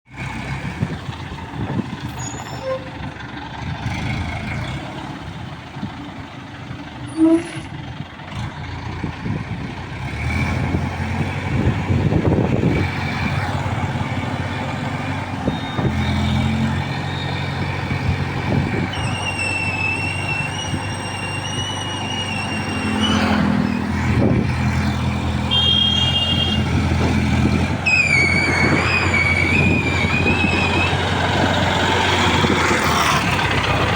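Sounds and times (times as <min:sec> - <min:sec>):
vehicle engine hum: 0:00.1 - 0:33.9.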